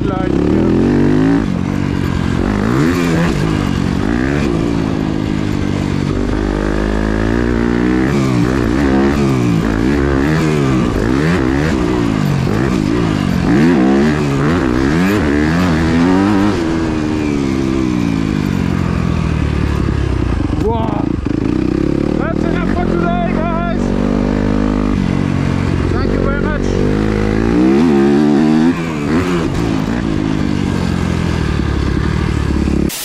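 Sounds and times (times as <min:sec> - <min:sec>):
motocross engine revving: 0:00.0 - 0:33.0.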